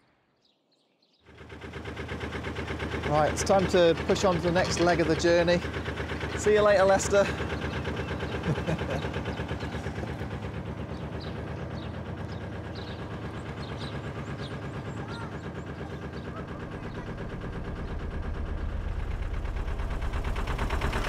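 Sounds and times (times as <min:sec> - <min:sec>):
diesel boat engine chugging: 0:01.3 - 0:21.0.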